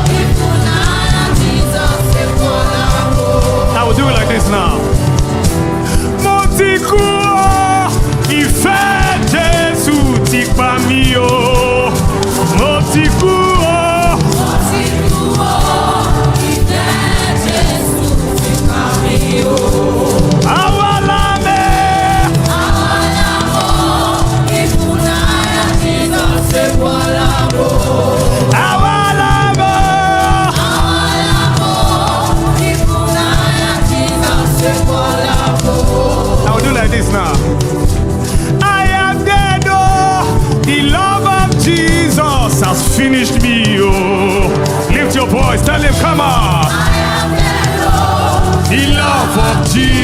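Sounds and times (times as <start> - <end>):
choir holding long notes: 0.0 - 6.2, 7.2 - 41.9, 43.6 - 50.0
drum hits: 0.0 - 50.0
full band playing: 0.0 - 50.0.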